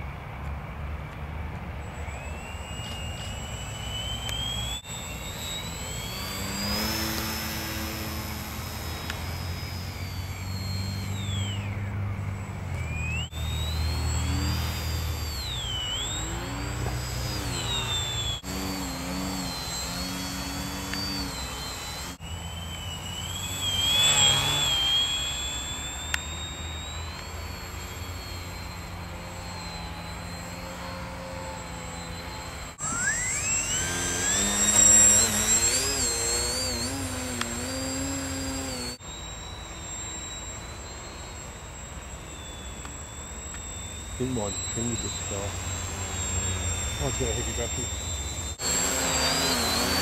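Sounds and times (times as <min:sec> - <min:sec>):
rc plane motors whining: 0:00.0 - 0:50.0.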